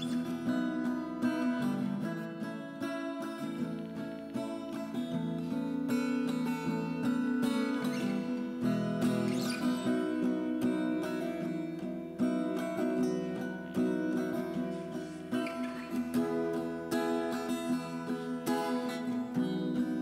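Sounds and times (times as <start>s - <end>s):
acoustic guitar piece: 0.0s - 20.0s.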